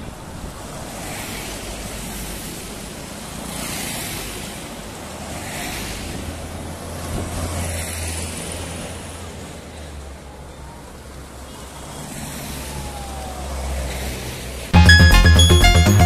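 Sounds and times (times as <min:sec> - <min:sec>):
vehicles driving past: 0:00.0 - 0:14.8.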